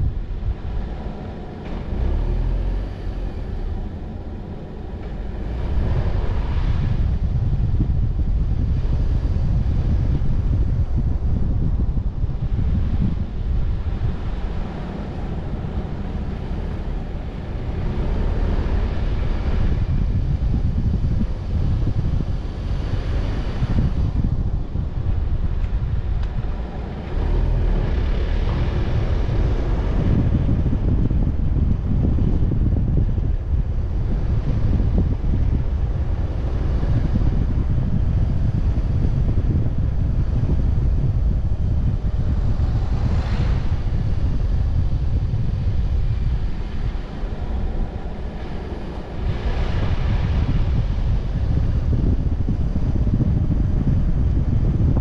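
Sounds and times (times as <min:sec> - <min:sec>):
car road noise: 0:00.0 - 0:55.0
wind rumbling on microphone: 0:00.0 - 0:55.0.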